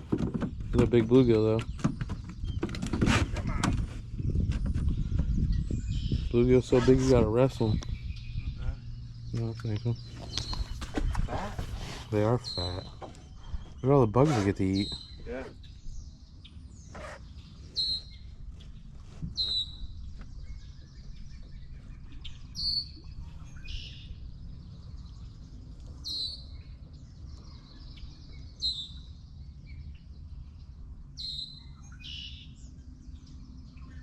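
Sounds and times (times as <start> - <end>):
birds chirping: 0.0 - 34.0
low background rumble: 0.0 - 34.0.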